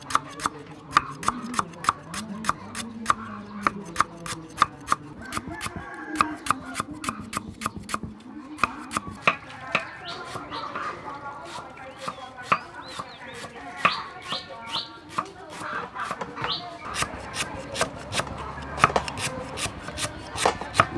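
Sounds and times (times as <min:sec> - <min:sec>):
cleaver chopping on wooden board: 0:00.0 - 0:10.6, 0:12.0 - 0:20.9.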